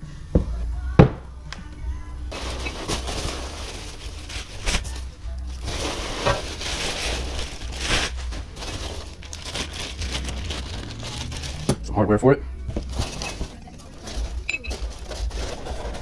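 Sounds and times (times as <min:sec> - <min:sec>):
hands rummaging through packing peanuts: 0:02.3 - 0:11.9, 0:12.7 - 0:16.0
plastic bag crinkling: 0:02.3 - 0:11.9, 0:12.7 - 0:16.0.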